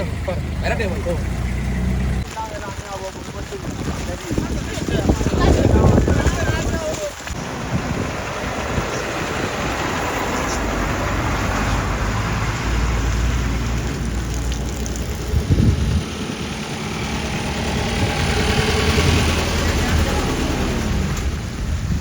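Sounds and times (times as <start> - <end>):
vehicle engine running: 0.0 - 6.7, 7.3 - 22.0
deep rumble: 0.0 - 22.0
dense rushing noise: 3.6 - 22.0.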